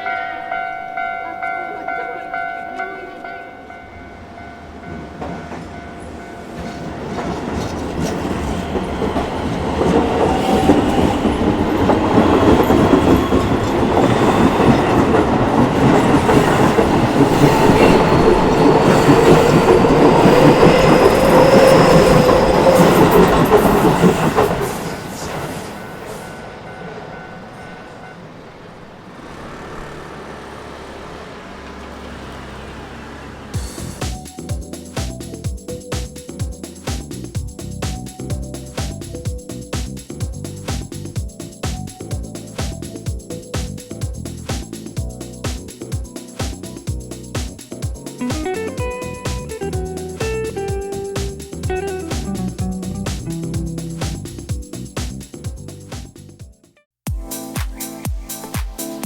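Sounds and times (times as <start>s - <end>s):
electric train passing: 0.0s - 55.0s
train wheel clatter: 4.8s - 56.3s.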